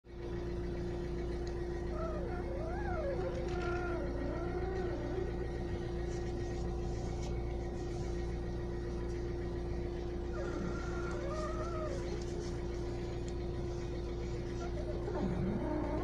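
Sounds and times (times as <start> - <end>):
diesel engine idling: 0.1 - 16.0
steering squeak: 1.9 - 16.0.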